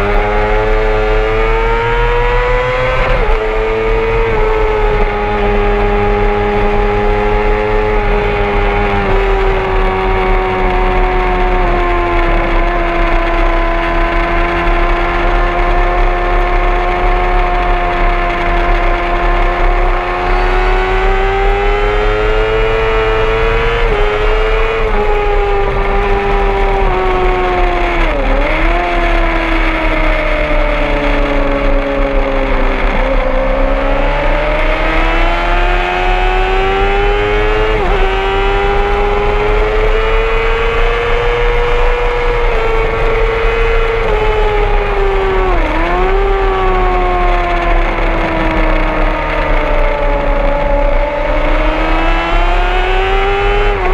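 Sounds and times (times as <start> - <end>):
low rush of wind: 0.0 - 53.9
motorcycle engine at high revs: 0.0 - 53.9.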